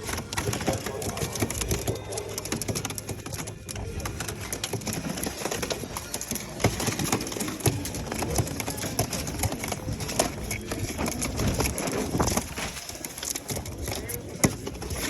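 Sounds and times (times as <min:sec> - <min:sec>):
people chatting: 0:00.0 - 0:15.0
pigeons cooing: 0:00.0 - 0:15.0
scattered clicks and knocks: 0:00.0 - 0:15.0.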